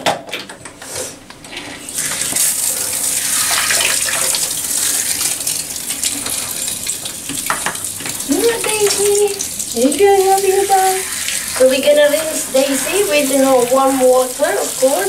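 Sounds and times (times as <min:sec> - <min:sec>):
tap water running into bathtub: 0:01.4 - 0:15.0.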